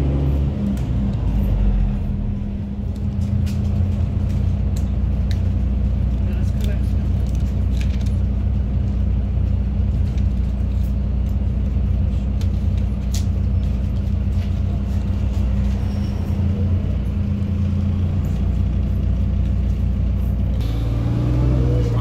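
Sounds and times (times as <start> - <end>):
bus engine droning: 0.0 - 22.0
road noise: 0.0 - 22.0.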